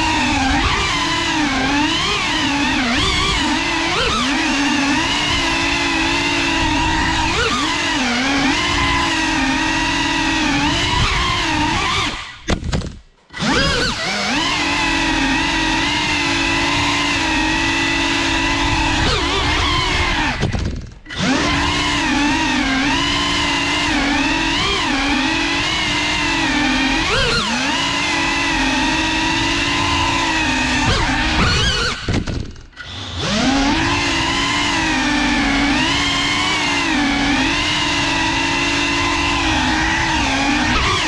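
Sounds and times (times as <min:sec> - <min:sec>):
drone propellers whining: 0:00.0 - 0:12.6, 0:13.2 - 0:41.0.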